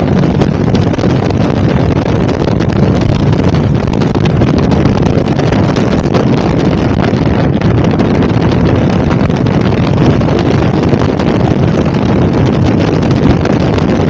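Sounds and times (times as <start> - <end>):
motorcycle engine and road noise: 0.0 - 14.0
wind buffeting microphone: 0.0 - 14.0.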